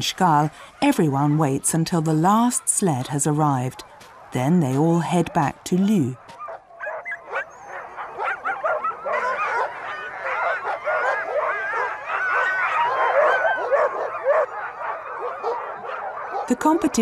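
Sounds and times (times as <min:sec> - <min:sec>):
sled dogs barking and howling: 0:00.0 - 0:17.0.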